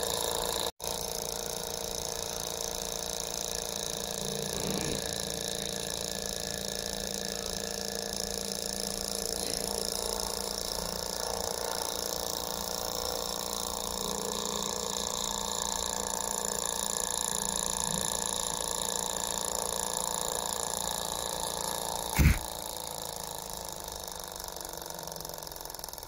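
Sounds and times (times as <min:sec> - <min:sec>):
small engine model running: 0:00.0 - 0:26.0.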